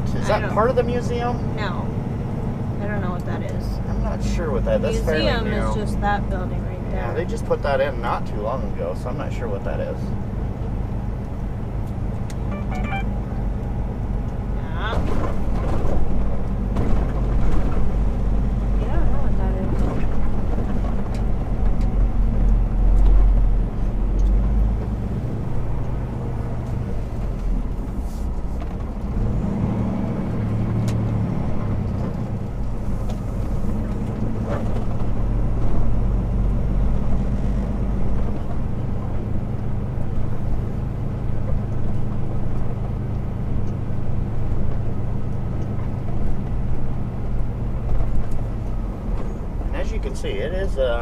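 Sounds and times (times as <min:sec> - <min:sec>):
truck diesel engine drone: 0:00.0 - 0:51.0.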